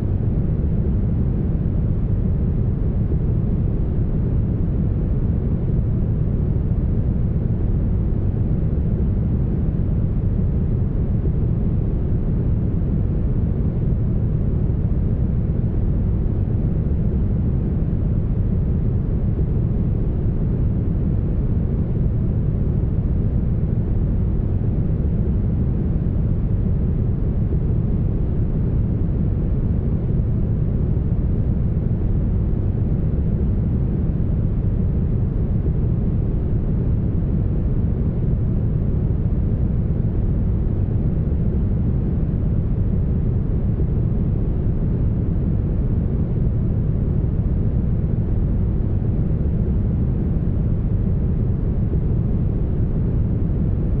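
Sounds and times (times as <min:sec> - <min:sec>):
brown noise rumble: 0:00.0 - 0:54.0.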